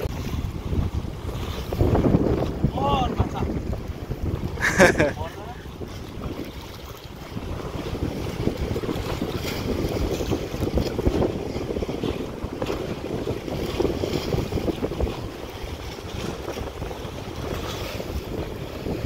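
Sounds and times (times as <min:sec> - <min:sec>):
waves sloshing against rocks: 0:00.0 - 0:19.0
wind buffeting microphone: 0:00.0 - 0:19.0.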